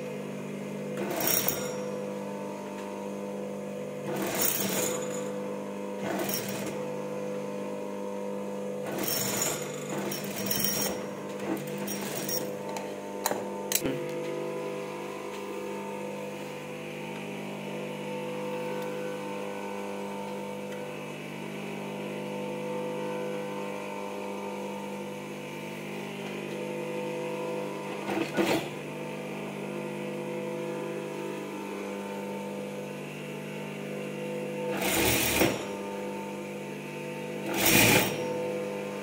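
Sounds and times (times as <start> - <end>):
sewing machine motor hum: 0.0 - 39.0.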